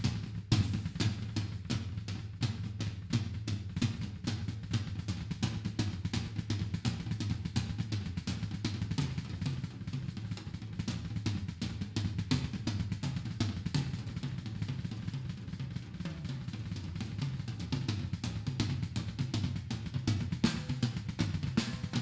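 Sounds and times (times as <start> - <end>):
drum kit solo: 0.0 - 22.0.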